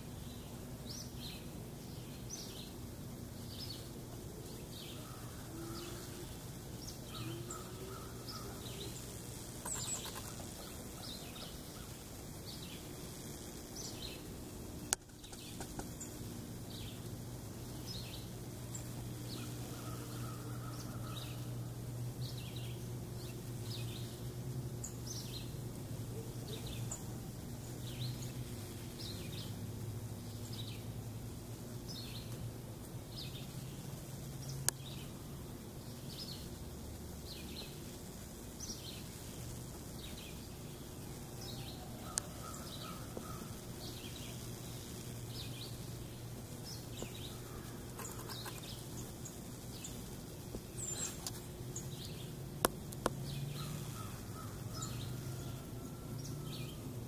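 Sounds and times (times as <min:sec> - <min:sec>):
songbirds chirping: 0:00.0 - 0:57.0
steady low hum: 0:00.0 - 0:57.0.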